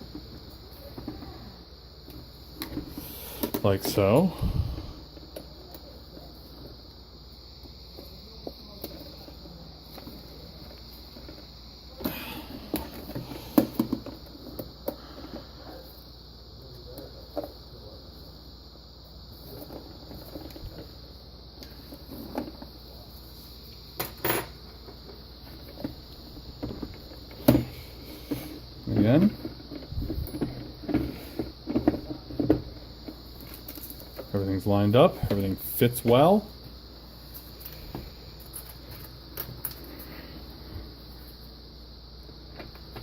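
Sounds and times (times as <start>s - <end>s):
low background hum and hiss: 0.0s - 43.0s.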